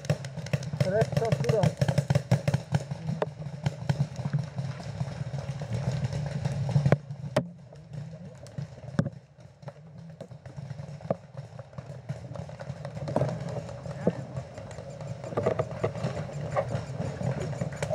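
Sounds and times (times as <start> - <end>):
paintball markers firing: 0.0 - 17.9.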